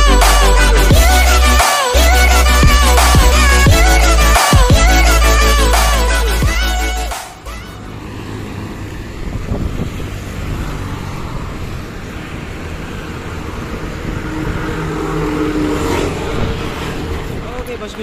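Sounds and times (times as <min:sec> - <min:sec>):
road traffic passing: 0:00.0 - 0:18.0
truck engine passing close: 0:00.0 - 0:18.0.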